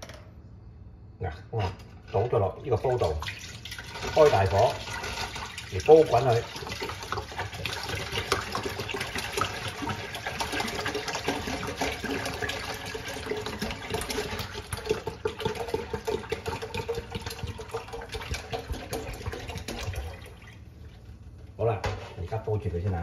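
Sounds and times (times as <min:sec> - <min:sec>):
milk pouring into metal pot: 0:02.2 - 0:21.2.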